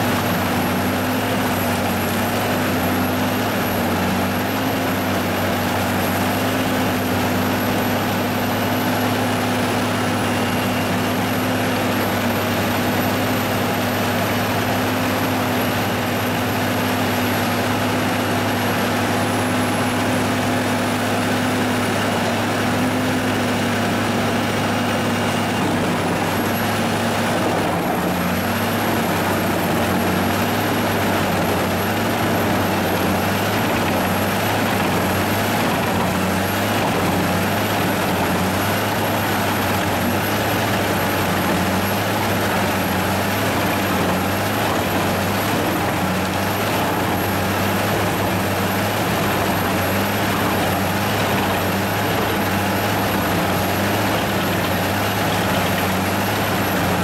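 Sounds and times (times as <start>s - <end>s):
tractor engine hum: 0.0s - 57.0s
wood chipper running: 0.0s - 57.0s.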